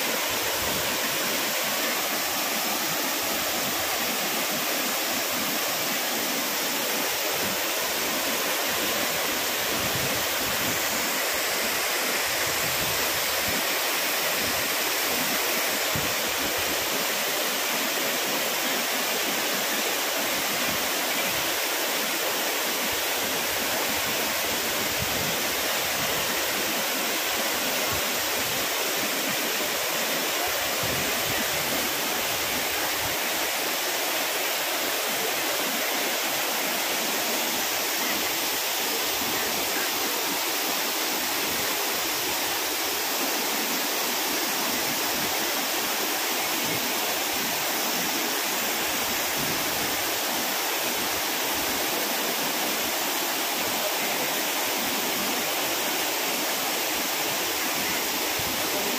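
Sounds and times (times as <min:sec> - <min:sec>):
waterfall rushing over rock: 0:00.0 - 0:58.9.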